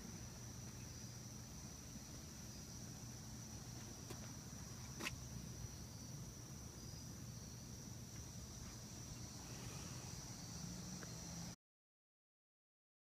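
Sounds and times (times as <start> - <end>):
crickets trilling: 0.0 - 11.6.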